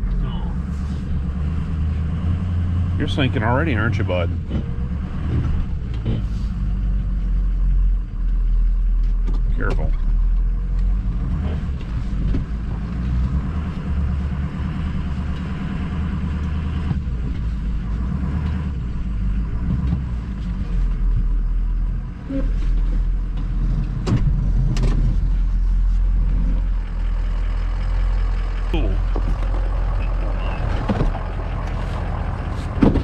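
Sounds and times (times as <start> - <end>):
truck engine straining: 0.0 - 33.0.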